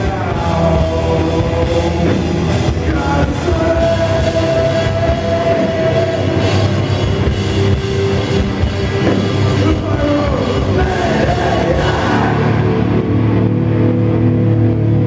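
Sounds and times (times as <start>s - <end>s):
heavy rock band playing live: 0.0s - 15.0s.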